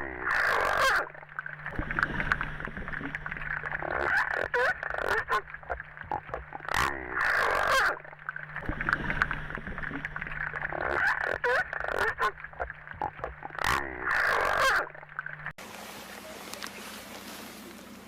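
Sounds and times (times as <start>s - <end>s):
seals yelping: 0.0s - 15.5s.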